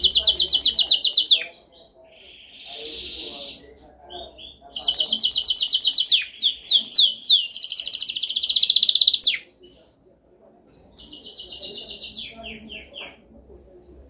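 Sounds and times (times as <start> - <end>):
canary singing trills: 0.0 - 10.1, 10.7 - 13.2.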